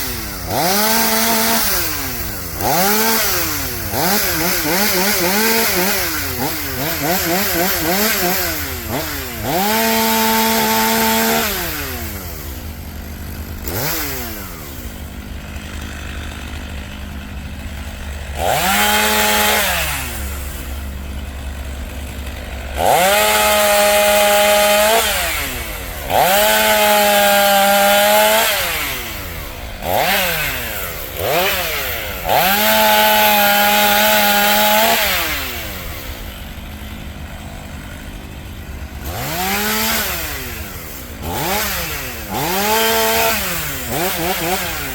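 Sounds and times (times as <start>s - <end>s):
chainsaw revving and idling: 0.0s - 44.9s.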